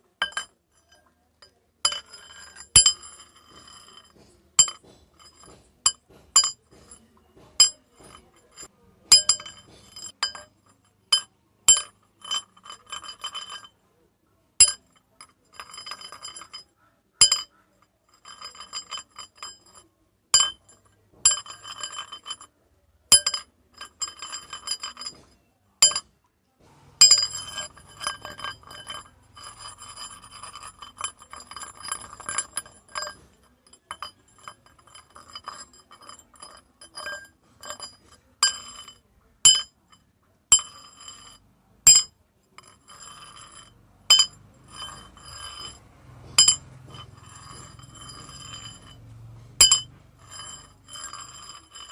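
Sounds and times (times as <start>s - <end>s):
metal rods clinking: 0.0s - 13.7s, 14.6s - 17.5s, 23.1s - 26.1s, 26.9s - 51.9s.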